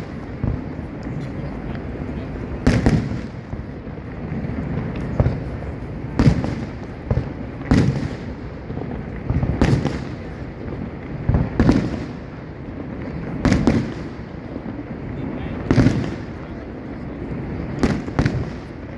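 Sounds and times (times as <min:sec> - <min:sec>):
fireworks bursting: 0:00.0 - 0:18.9.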